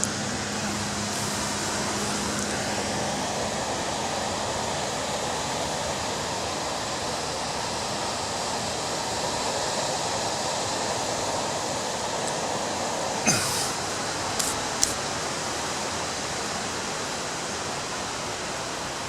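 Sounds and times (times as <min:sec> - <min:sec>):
ocean surf roaring: 0:00.0 - 0:19.0.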